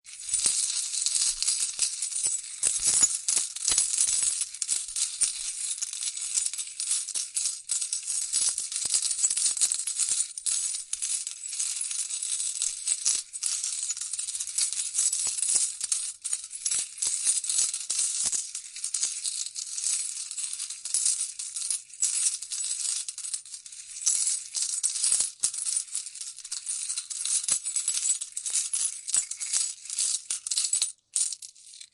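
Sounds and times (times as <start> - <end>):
coins clinking and jingling: 0.1 - 31.9.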